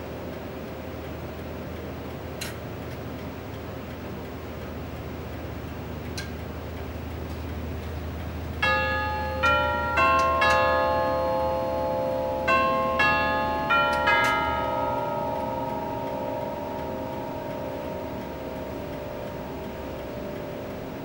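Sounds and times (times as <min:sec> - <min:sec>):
tubular clock chimes: 0:00.0 - 0:06.1, 0:06.7 - 0:21.0.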